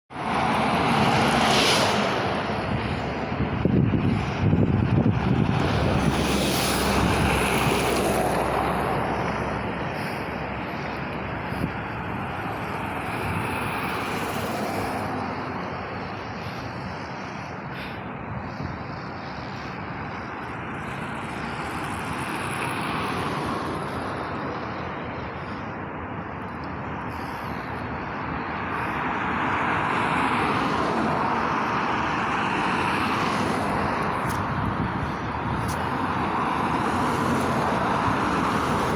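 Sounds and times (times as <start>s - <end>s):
trucks driving past: 0.1s - 38.9s.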